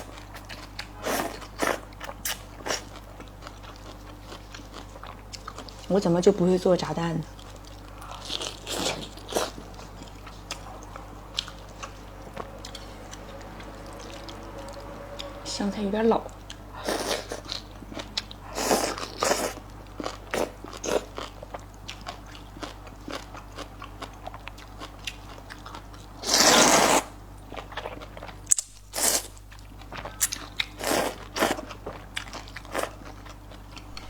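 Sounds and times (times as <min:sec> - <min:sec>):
person crunching and chewing: 0:00.0 - 0:05.8, 0:07.4 - 0:13.0, 0:16.4 - 0:34.0.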